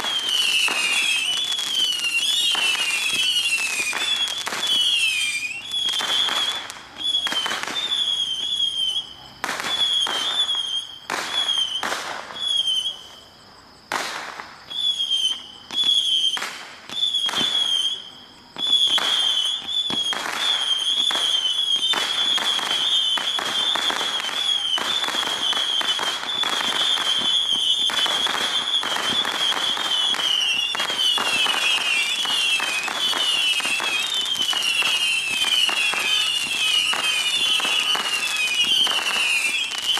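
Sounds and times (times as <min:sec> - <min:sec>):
firework pops and cracks: 0:00.0 - 0:39.9
whistling rockets: 0:00.0 - 0:39.9.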